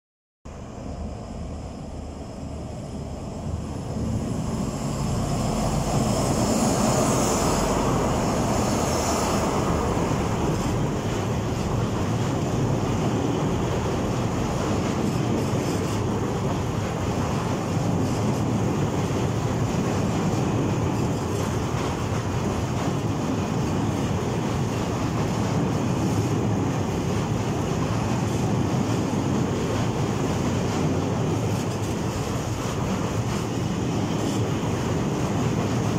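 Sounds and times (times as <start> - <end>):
freight train rolling past: 0.5 - 35.9.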